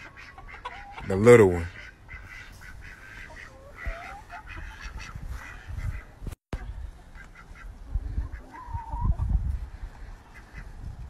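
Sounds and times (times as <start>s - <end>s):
ducks quacking: 0.0s - 9.0s, 10.1s - 10.8s
chickens clucking: 0.0s - 11.0s.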